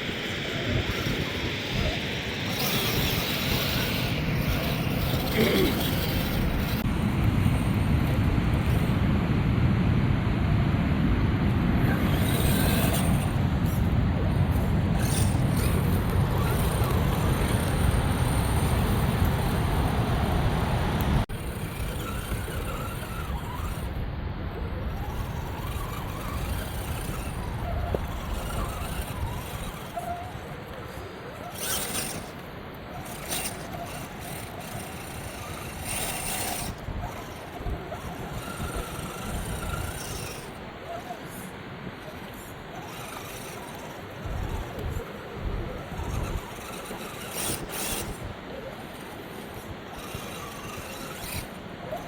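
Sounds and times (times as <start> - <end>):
toy truck motor running: 0.0 - 9.0, 11.6 - 52.0.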